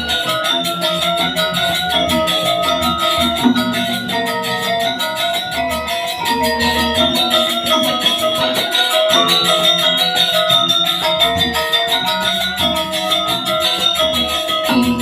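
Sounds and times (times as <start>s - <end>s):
fast percussive strokes: 0.0s - 15.0s
metallophones ringing: 0.0s - 15.0s.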